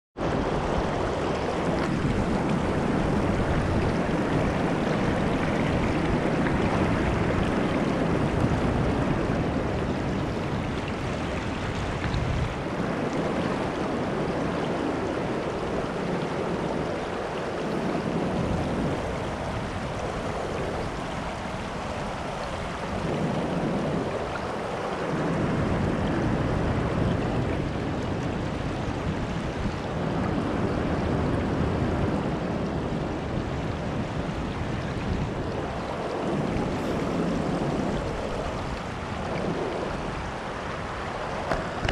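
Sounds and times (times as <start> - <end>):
river water rushing over rocks: 0.2 - 41.9
wind buffeting microphone: 0.2 - 41.9.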